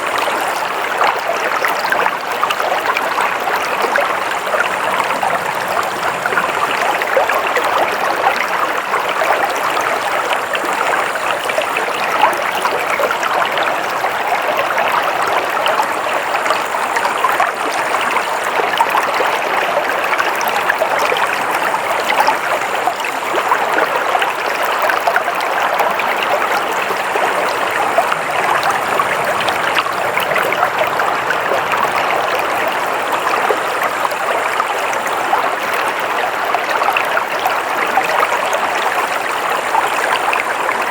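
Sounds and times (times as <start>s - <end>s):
stream water rushing and splashing: 0.0s - 40.9s.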